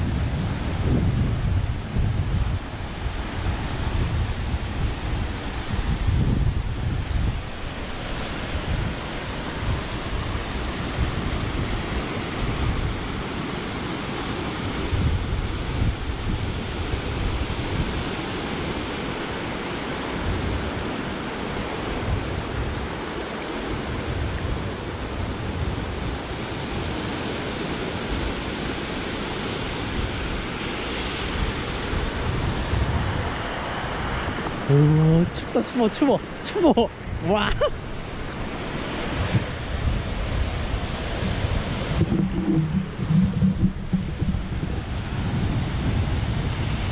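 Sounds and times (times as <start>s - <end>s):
small waves breaking on beach: 0.0s - 46.9s
wind buffeting microphone: 0.0s - 46.9s.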